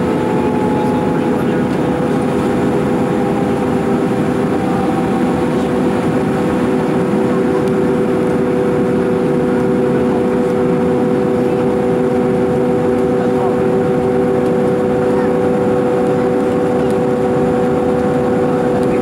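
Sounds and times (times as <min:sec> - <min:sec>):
jet engine and airflow drone: 0:00.0 - 0:19.0
steady hums: 0:00.0 - 0:19.0.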